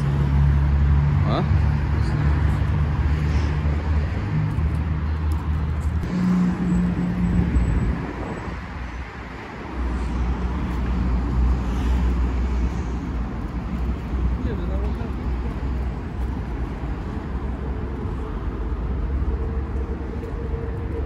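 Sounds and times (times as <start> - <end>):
traffic engine rumble: 0.0 - 21.0.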